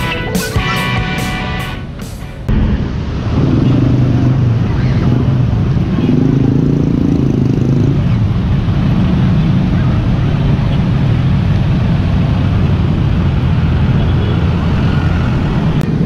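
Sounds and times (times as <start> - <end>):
truck passing: 0.0 - 16.0
scooters and motorcycles passing: 3.1 - 16.0.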